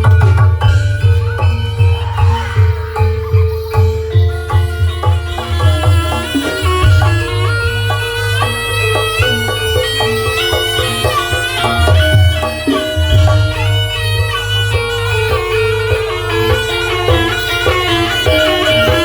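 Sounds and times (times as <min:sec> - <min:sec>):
held drone: 0:00.0 - 0:19.0
reedy wind melody: 0:00.0 - 0:19.0.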